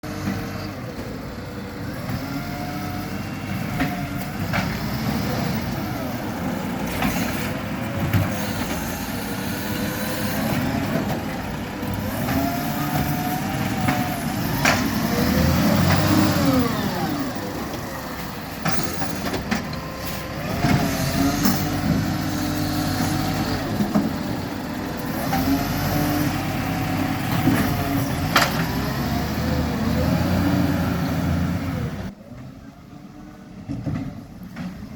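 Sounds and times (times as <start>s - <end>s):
garbage truck engine revving: 0.0s - 32.2s.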